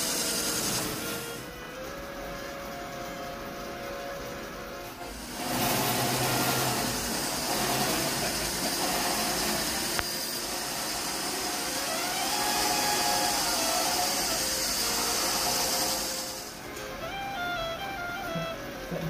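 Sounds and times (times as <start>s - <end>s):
metal lathe cutting hiss: 0.0s - 17.2s.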